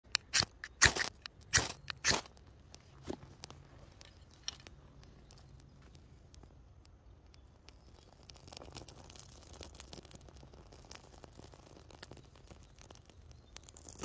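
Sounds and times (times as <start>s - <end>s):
faint ticks and crackles: 2.3s - 14.0s.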